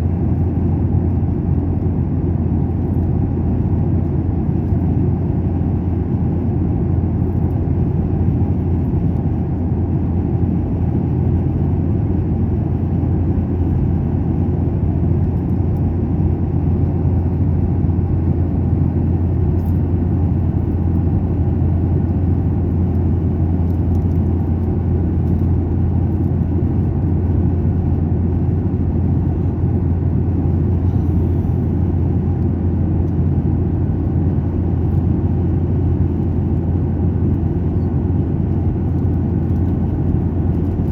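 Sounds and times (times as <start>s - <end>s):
airliner cabin rumble: 0.0s - 40.9s.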